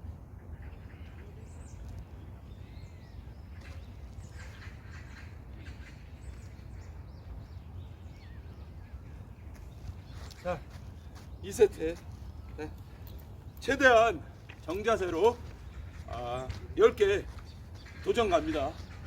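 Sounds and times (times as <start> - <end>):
birds chirping and calling: 0.3 - 19.0.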